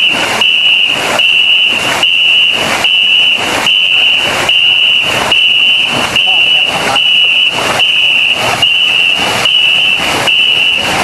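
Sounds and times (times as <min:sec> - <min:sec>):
paddles striking water: 0:00.0 - 0:11.0
shrill steady whistle: 0:00.0 - 0:11.0.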